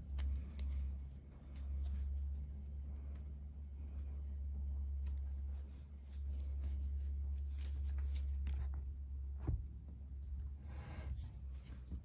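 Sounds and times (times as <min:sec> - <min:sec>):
paper yarn rustling while crocheting: 0:00.0 - 0:09.3, 0:11.0 - 0:12.0
steady low hum: 0:00.0 - 0:12.0.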